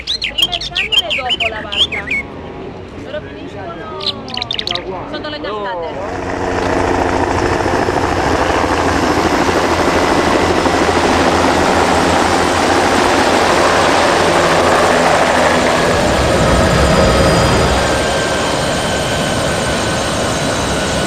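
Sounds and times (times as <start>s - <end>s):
helicopter turbine engine: 0.0s - 21.0s
rotor blades beating: 3.8s - 21.0s.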